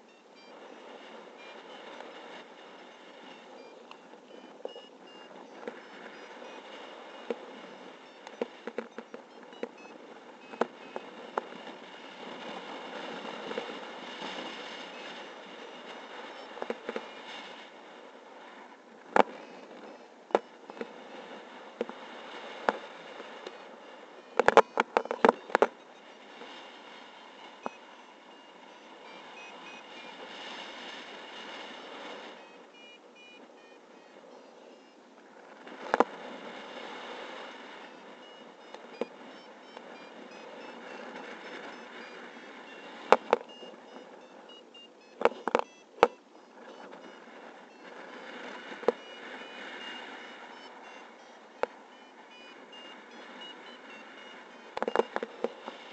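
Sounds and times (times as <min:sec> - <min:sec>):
variometer beeping: 0:00.0 - 0:55.9
wind on microphone: 0:00.0 - 0:55.9.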